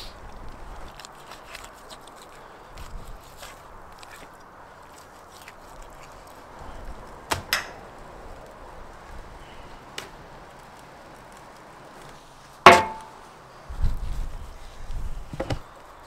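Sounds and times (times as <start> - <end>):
low outdoor background: 0.0 - 16.0.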